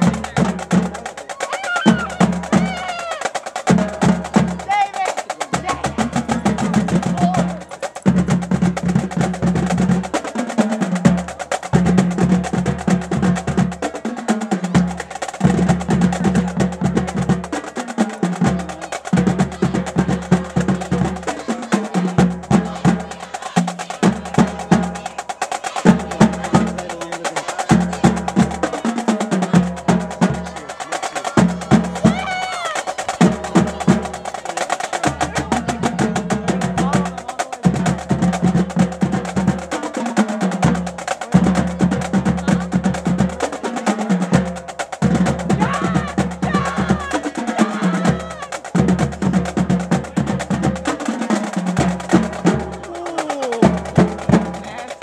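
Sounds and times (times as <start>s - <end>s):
driving drum beat: 0.0s - 55.0s
marching band playing: 0.0s - 55.0s.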